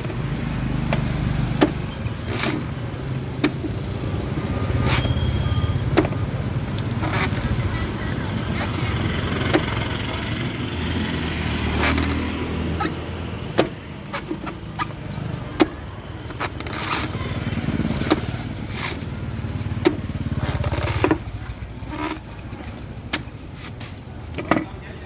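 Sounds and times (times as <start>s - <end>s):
blade chopping coconut: 0.2s - 22.2s.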